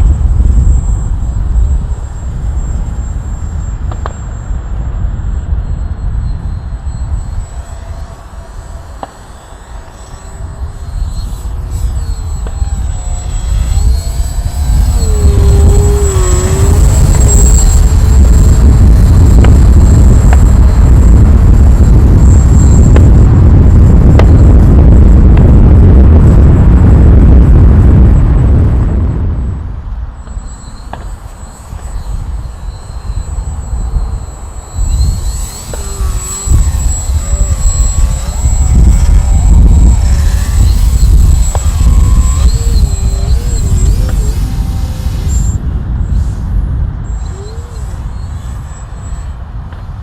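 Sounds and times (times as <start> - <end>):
rc airplane motor whine: 0.0 - 50.0
wind buffeting microphone: 0.0 - 50.0.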